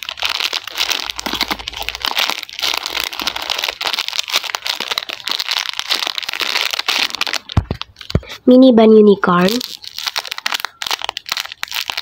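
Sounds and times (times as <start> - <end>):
plastic bag crinkling: 0.0 - 8.4, 9.2 - 12.0.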